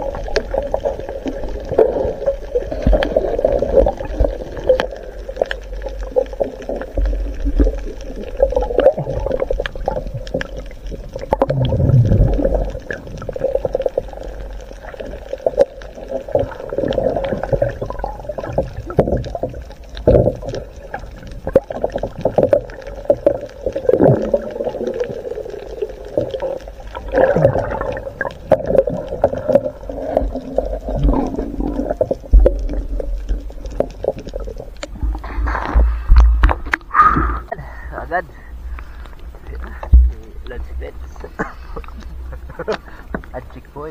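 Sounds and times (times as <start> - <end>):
underwater gurgling and sloshing: 0.0 - 43.9.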